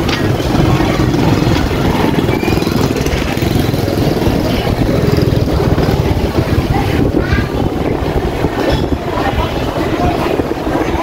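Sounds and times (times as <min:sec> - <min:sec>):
motorbike engine rumbling: 0:00.0 - 0:11.0.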